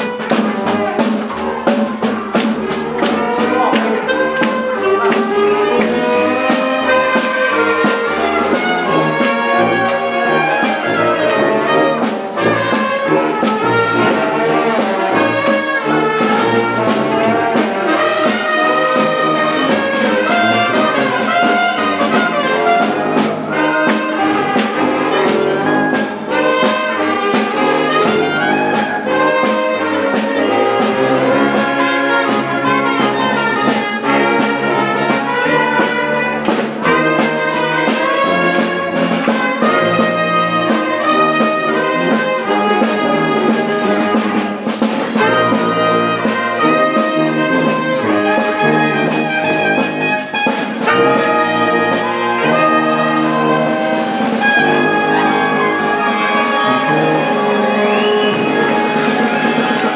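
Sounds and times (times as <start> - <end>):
brass band playing: 0.0 - 59.9
sharp percussion hits: 0.0 - 59.9.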